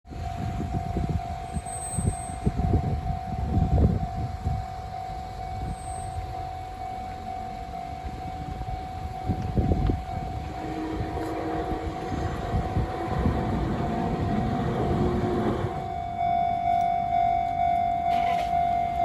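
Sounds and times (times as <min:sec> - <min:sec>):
level crossing warning bell ringing: 0:00.1 - 0:19.0
low rumbles: 0:00.1 - 0:19.0.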